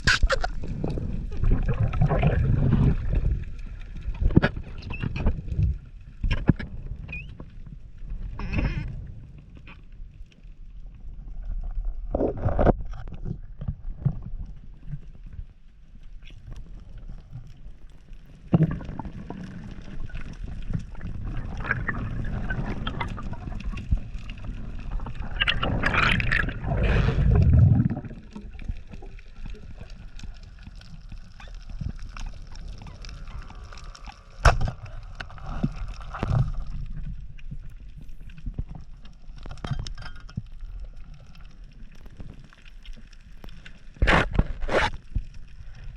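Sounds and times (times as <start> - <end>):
water gurgling underwater: 0.0 - 9.8, 10.8 - 15.3, 16.6 - 45.9.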